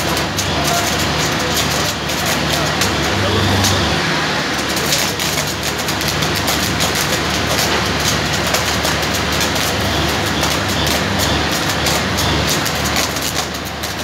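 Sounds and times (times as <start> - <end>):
diesel generator humming: 0.0 - 14.0.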